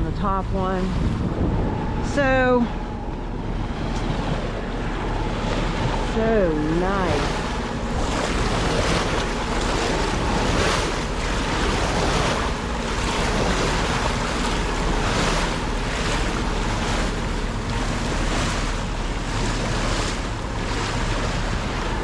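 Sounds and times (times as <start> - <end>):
boat engine hum: 0.0 - 22.0
water rushing past hull: 0.0 - 22.0
wind buffeting microphone: 0.0 - 22.0.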